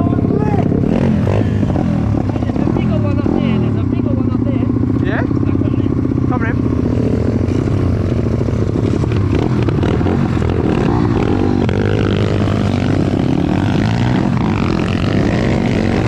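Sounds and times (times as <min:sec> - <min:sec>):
pit bike engines revving: 0:00.0 - 0:16.0.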